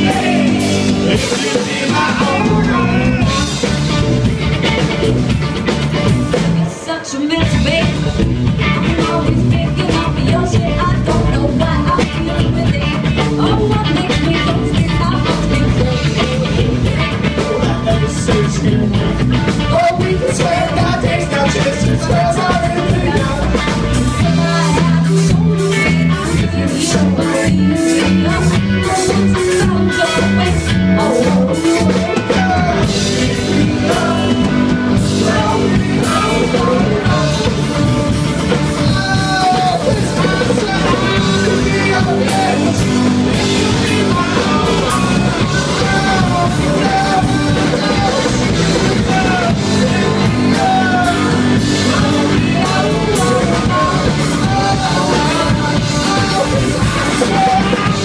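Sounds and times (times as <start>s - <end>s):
drum kit: 0.0s - 58.0s
electric guitars: 0.0s - 58.0s
woman singing: 6.3s - 19.0s, 19.7s - 37.8s, 38.7s - 58.0s.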